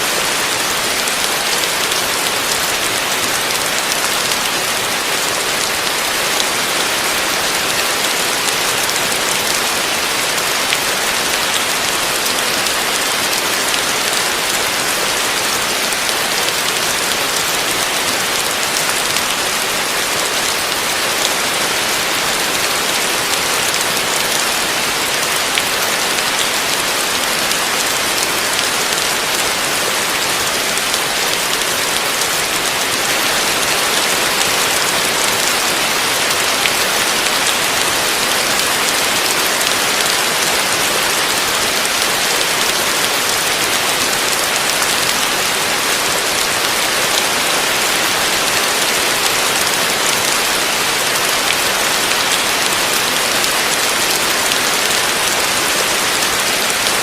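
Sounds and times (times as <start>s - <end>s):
rain drop ticks: 0.2s - 57.0s.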